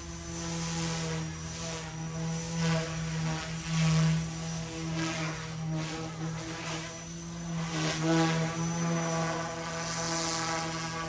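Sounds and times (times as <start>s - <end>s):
toy helicopter rotor hum: 0.0s - 11.0s.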